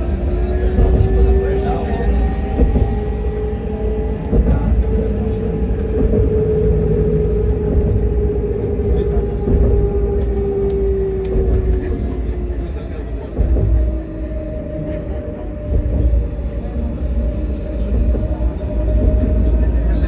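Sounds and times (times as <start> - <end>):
tram motors whining: 0.0 - 20.0
wheels rumbling on rails: 0.0 - 20.0.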